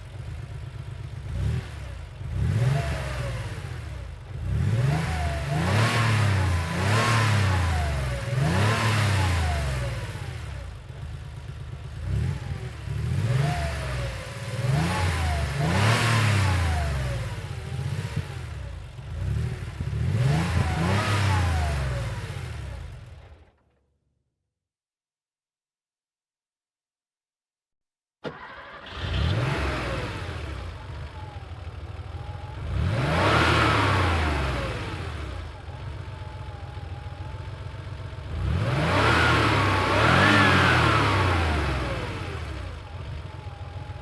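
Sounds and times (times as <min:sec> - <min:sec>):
car engine revving: 0:00.0 - 0:23.3, 0:28.2 - 0:44.0.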